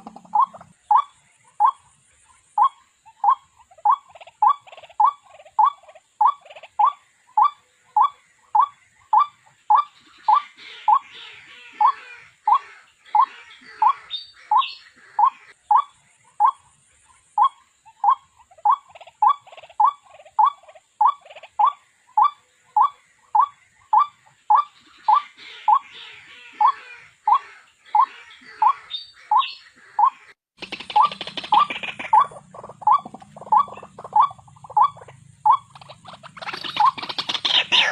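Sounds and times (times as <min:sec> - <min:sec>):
waterhen call: 0:00.0 - 0:01.9, 0:02.6 - 0:16.6, 0:17.4 - 0:37.9
bird chattering: 0:00.0 - 0:37.9.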